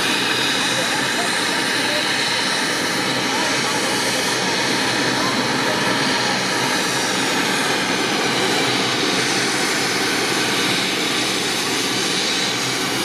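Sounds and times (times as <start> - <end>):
helicopter turbine and rotor: 0.0 - 13.0.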